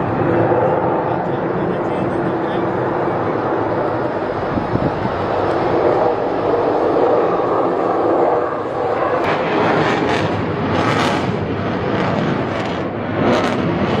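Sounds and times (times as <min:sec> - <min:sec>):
jet engine roaring: 0:00.0 - 0:14.0.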